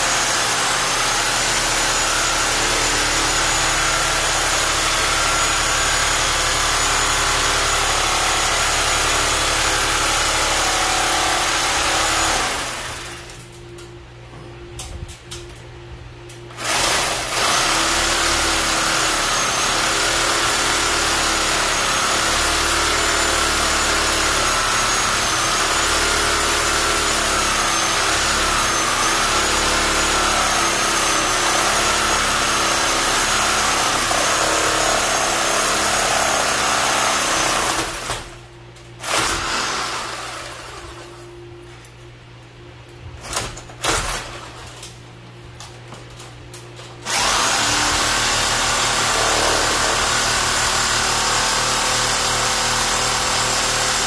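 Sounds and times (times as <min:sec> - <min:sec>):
power saw cutting pipe: 0:00.0 - 0:13.4, 0:16.5 - 0:38.4, 0:39.0 - 0:40.8, 0:47.0 - 0:54.0.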